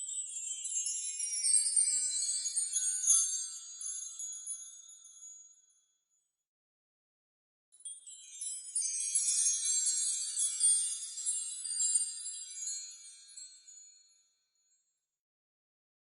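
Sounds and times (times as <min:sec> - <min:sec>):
shimmer of tinkling chimes: 0:00.0 - 0:06.0, 0:07.8 - 0:15.0.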